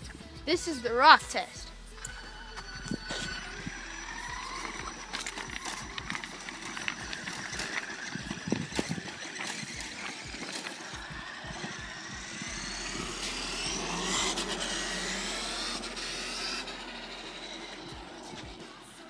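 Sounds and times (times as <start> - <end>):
electric motor whine: 1.7 - 19.0
stones crackling under tyres: 2.0 - 19.0.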